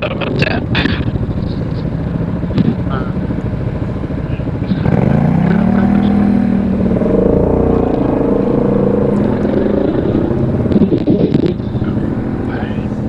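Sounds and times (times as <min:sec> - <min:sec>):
atv engine pulling under load: 0:00.0 - 0:13.0.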